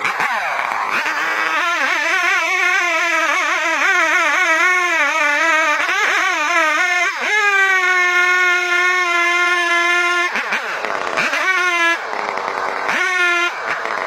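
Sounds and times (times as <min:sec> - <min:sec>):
chainsaw cutting tree trunk: 0:00.0 - 0:14.0.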